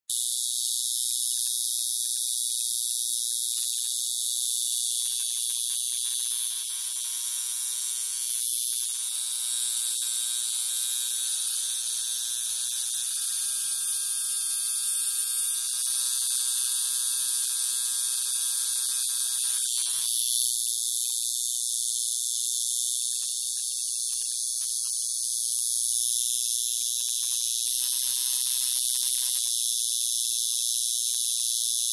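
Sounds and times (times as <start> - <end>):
tattoo machine buzzing: 0.1 - 31.9.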